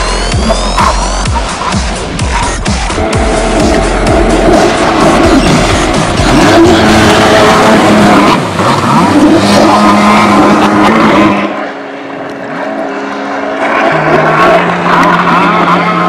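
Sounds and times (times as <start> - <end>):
jet ski engine revving: 0.0 - 16.0
rushing water: 0.0 - 16.0.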